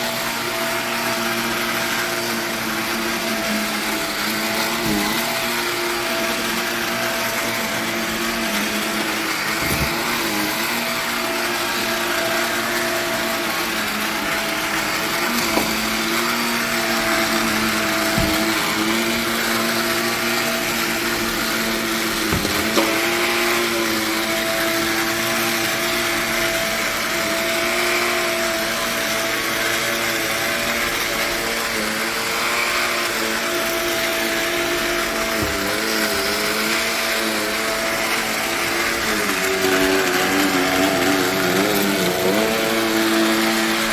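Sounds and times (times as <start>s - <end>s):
vacuum motor whining: 0.0s - 43.9s.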